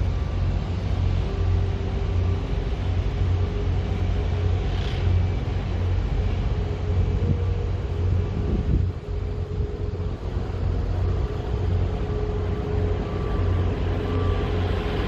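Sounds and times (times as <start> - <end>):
faint steady hum: 0.0 - 15.0
low engine rumble: 0.0 - 15.0.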